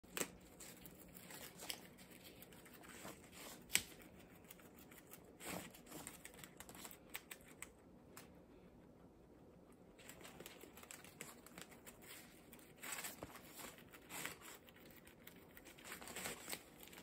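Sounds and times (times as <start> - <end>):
guinea pigs chewing leaves: 0.0 - 17.0.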